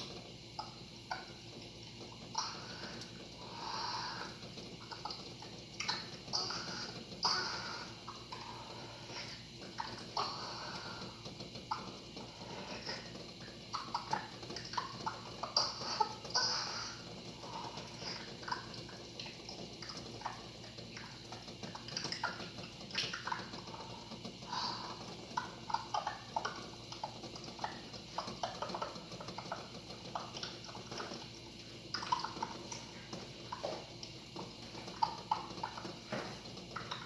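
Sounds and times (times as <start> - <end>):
water boiling in a pot: 0.0 - 37.0.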